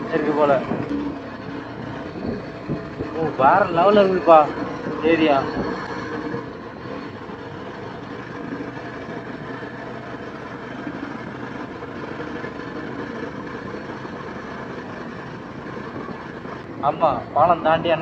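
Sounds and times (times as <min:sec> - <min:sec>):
motorcycle engine cruising: 0:00.0 - 0:18.0
road and wind noise: 0:00.0 - 0:18.0.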